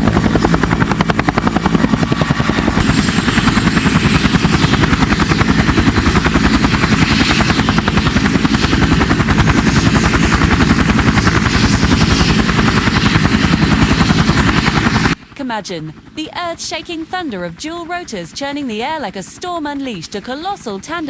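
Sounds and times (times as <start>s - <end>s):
helicopter rotor beating: 0.0s - 21.0s.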